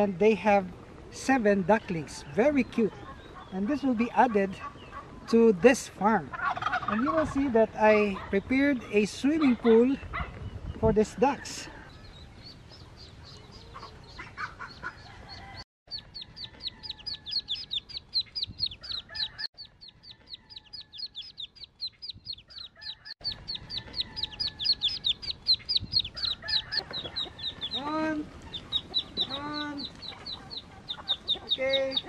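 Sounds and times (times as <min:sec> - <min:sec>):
ducklings peeping: 0:01.7 - 0:32.0.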